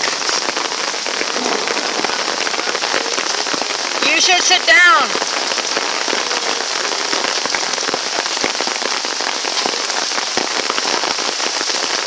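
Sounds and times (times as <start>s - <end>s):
heavy rain hissing: 0.0s - 12.0s
raindrops ticking: 0.0s - 12.0s.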